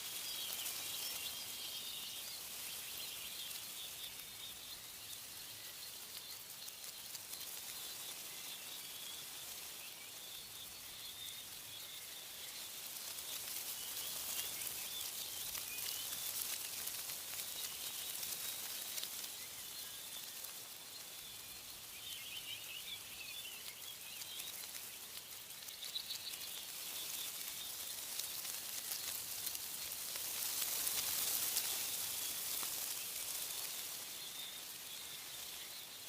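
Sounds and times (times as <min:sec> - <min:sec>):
faint bird chirps: 0:00.0 - 0:36.0
wind rustling tree leaves: 0:00.0 - 0:36.0.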